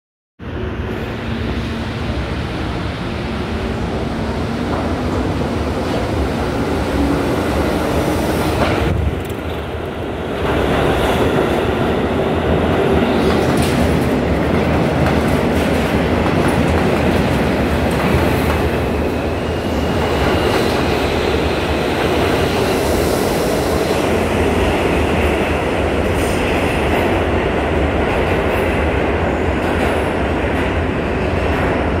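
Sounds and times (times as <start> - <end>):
train wheels rumbling on rails: 0.5 - 32.0.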